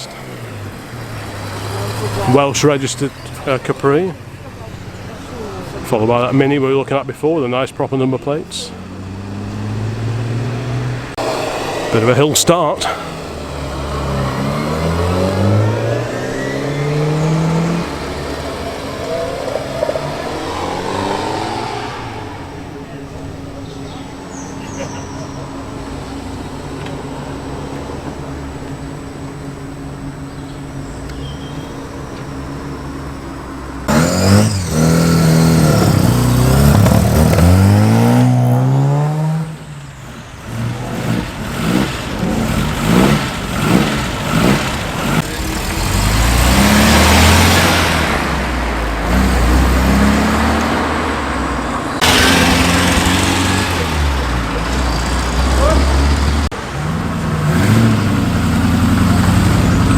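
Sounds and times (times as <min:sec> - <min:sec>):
cars accelerating past: 0:00.0 - 0:06.9, 0:07.5 - 0:59.9
car engines idling: 0:00.0 - 0:59.9.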